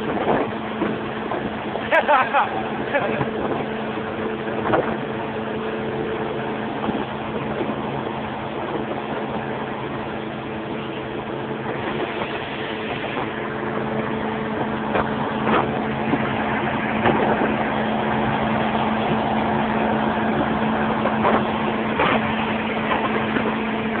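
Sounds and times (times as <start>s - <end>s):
boat engine humming: 0.0s - 24.0s
rushing water: 0.0s - 24.0s.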